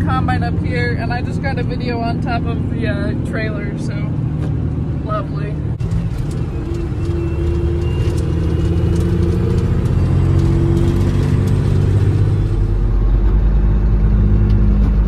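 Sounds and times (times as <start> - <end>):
gravel road noise: 0.0 - 15.0
truck diesel engine: 0.0 - 15.0.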